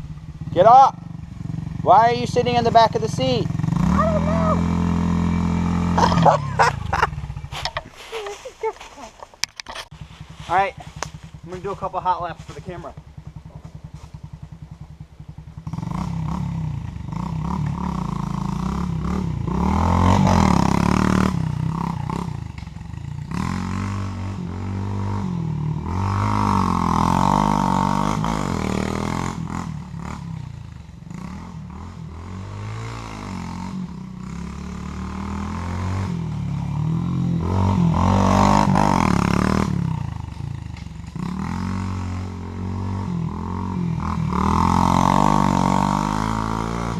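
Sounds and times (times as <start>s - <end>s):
pit bike engine revving: 0.0s - 8.8s, 9.7s - 46.9s.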